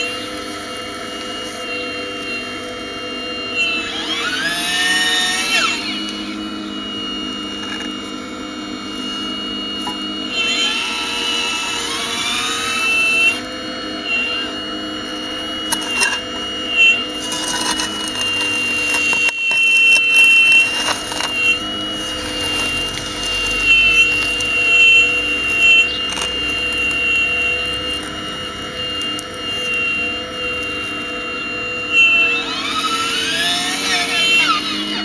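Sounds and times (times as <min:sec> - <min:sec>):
model excavator motors whining: 0:00.0 - 0:35.0.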